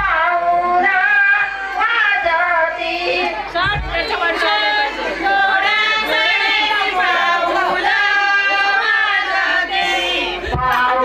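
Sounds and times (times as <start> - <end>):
voices singing: 0.0 - 11.0.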